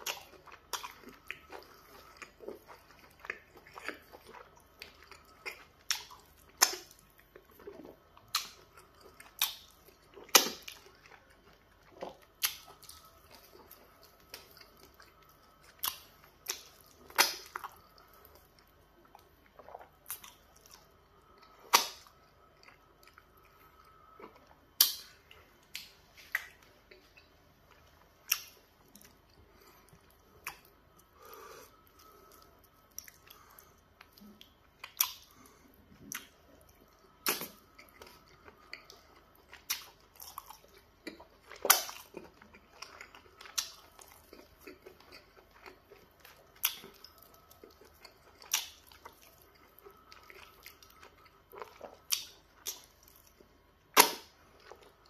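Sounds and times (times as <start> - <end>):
wet chewing and smacking: 0.0 - 55.0.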